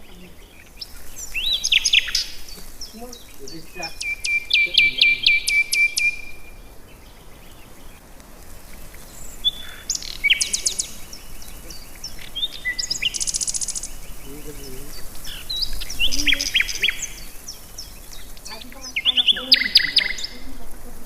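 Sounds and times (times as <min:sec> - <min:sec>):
fast bird trill: 0:00.0 - 0:07.9, 0:08.7 - 0:20.6
small birds chirping: 0:00.0 - 0:21.0.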